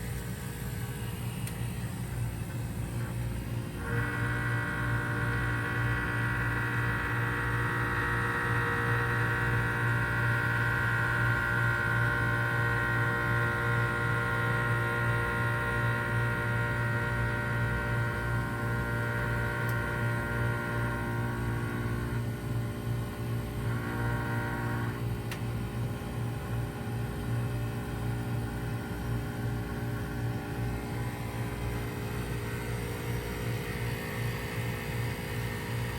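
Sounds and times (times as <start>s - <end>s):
heat pump humming: 0.0s - 35.9s.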